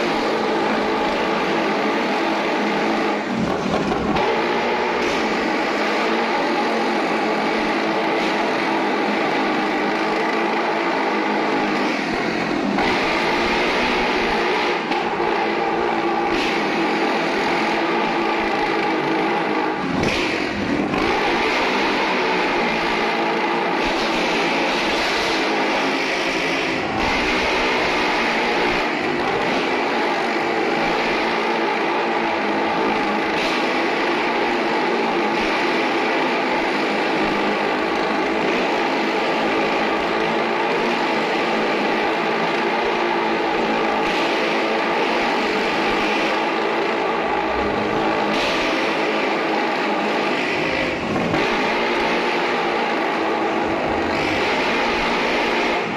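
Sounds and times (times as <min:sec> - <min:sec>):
motorcycle engines running: 0:00.0 - 0:55.9.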